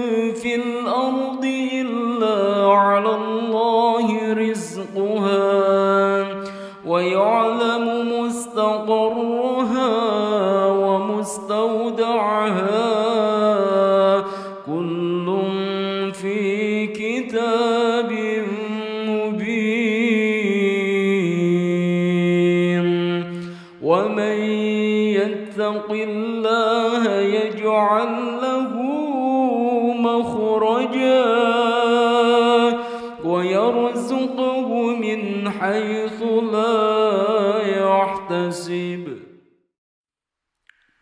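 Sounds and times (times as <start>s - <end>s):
person chanting melodically: 0.0s - 39.3s.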